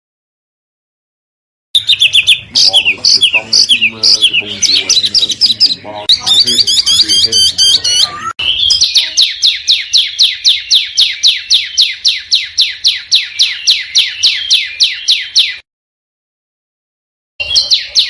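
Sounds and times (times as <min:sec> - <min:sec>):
songbird singing high notes: 0:01.8 - 0:15.6, 0:17.4 - 0:18.0.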